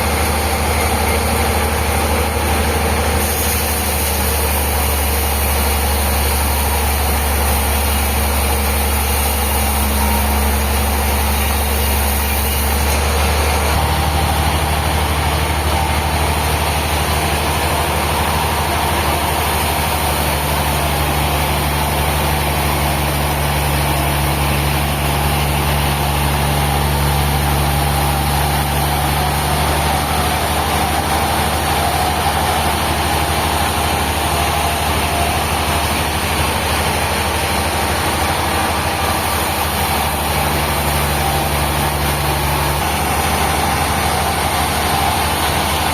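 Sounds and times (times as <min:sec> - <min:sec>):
sawmill machinery droning: 0:00.0 - 0:45.9.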